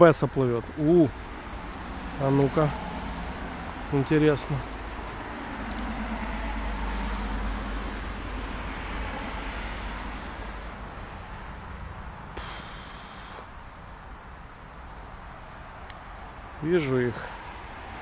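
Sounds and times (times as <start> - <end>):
insects chirping: 0.0 - 18.0
road traffic rumble: 0.0 - 18.0.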